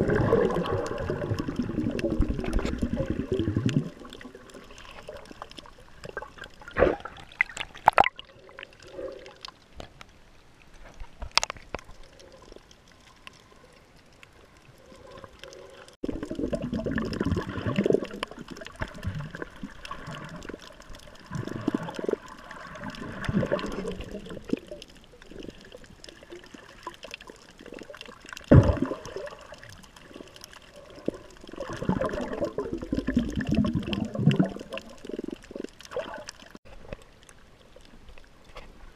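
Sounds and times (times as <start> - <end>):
water sloshing underwater: 0.0 - 38.9.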